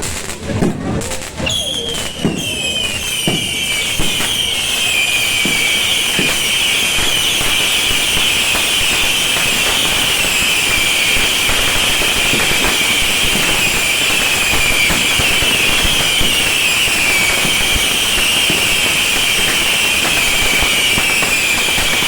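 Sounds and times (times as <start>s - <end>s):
fireworks crackling and banging: 0.0s - 22.0s
bottle rockets whistling: 0.4s - 22.0s.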